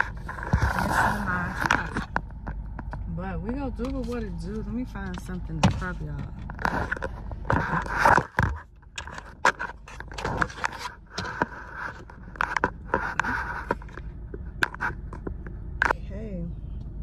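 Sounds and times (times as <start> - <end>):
scraping and rustling handling: 0.0 - 16.0.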